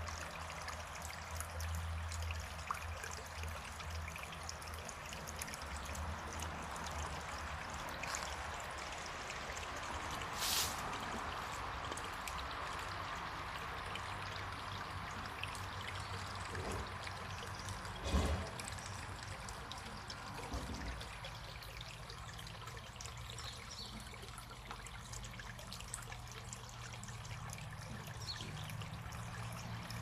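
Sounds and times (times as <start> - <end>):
water flowing and trickling: 0.0 - 30.0.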